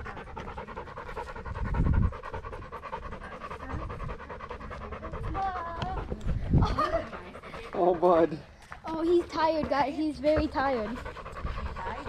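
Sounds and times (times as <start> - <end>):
dog panting heavily: 0.0 - 12.0.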